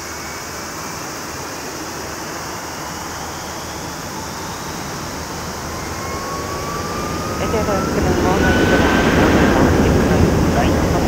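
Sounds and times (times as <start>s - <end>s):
distant jet engine roar: 0.0s - 11.0s
jet engine whine: 0.0s - 11.0s.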